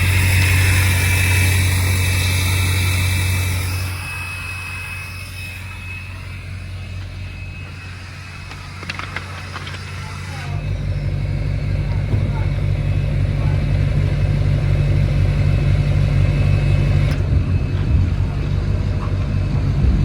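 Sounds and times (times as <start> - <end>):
thin high whine: 0.0 - 20.0
truck engine hum: 0.0 - 20.0.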